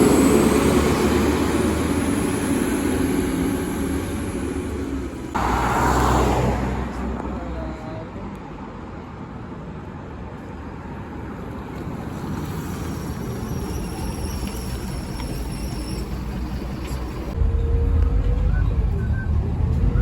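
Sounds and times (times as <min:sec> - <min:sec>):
moving vehicle rumble: 0:00.0 - 0:09.5, 0:10.1 - 0:20.0.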